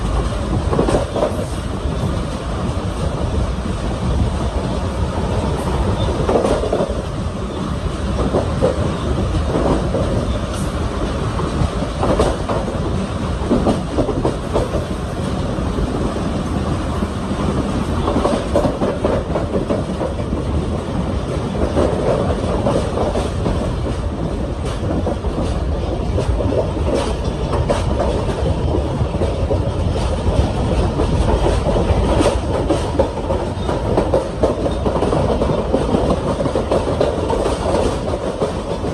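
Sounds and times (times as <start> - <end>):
train rumbling along track: 0.0 - 38.9.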